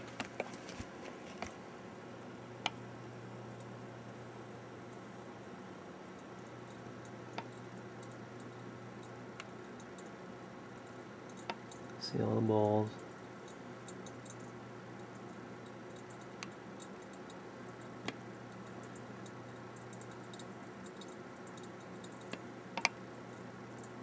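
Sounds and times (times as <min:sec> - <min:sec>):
cooling fan humming: 0:00.0 - 0:24.0.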